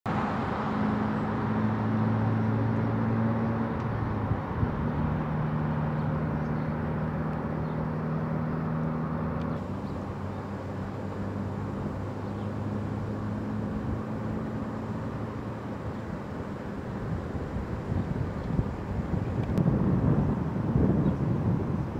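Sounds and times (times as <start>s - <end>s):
outdoor noise: 0.1s - 21.9s
vehicle engines idling: 0.1s - 21.9s.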